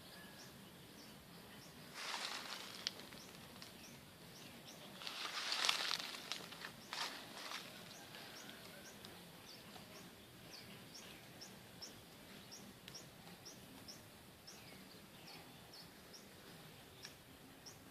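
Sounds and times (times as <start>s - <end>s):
low steady hiss: 0.0s - 17.9s
small bird chirping: 0.0s - 17.9s.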